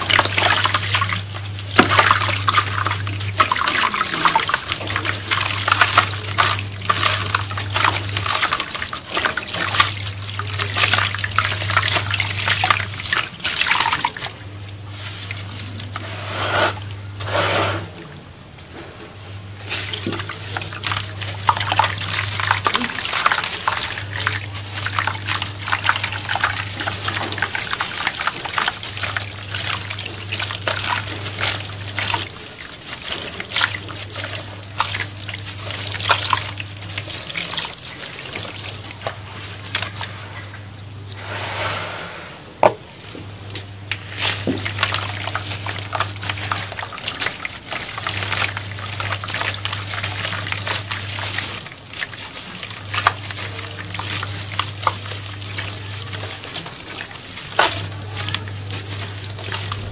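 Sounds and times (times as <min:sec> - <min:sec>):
gritty crackles of crumbling lump: 0:00.0 - 0:16.1, 0:19.6 - 0:41.3, 0:43.5 - 0:59.9.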